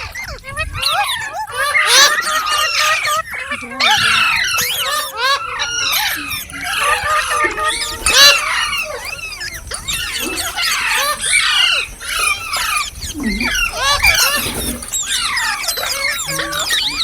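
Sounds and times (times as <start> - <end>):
parrots chirping and squawking: 1.4 - 17.0.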